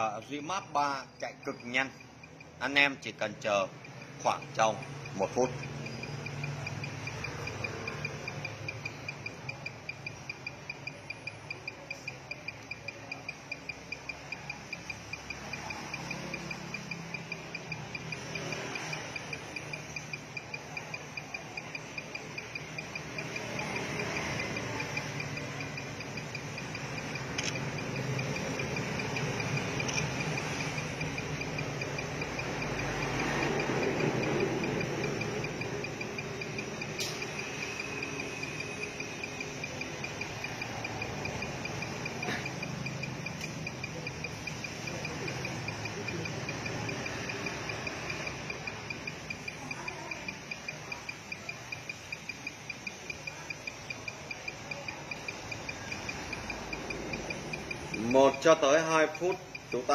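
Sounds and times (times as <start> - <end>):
cricket chirping: 1.0 - 3.0, 3.7 - 59.9.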